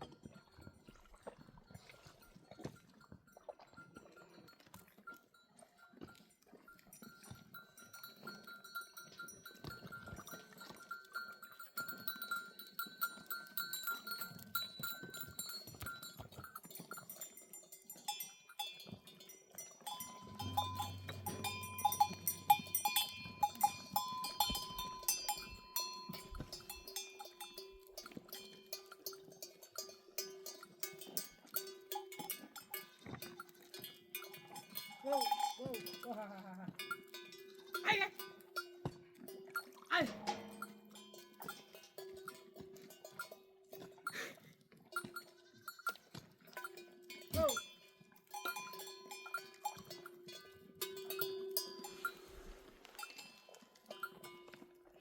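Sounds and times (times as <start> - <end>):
sheep bells clinking: 0.0 - 55.0.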